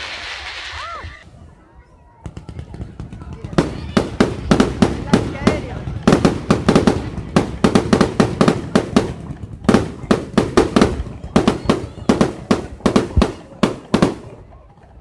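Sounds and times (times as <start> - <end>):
firework bangs: 0.0 - 1.2, 2.1 - 14.9.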